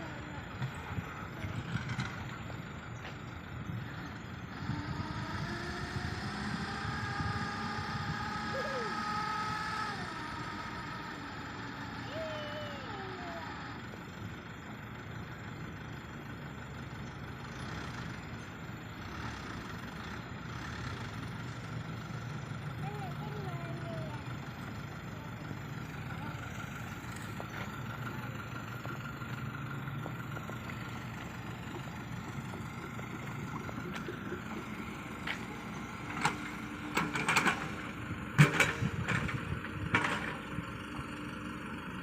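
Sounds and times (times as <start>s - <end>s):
excavator engine rumble: 0.0s - 42.0s.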